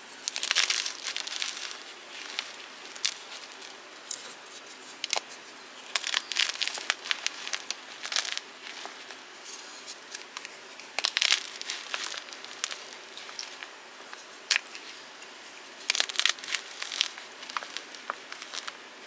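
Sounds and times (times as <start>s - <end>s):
chalk blocks being crushed: 0.2s - 4.1s, 5.0s - 18.8s.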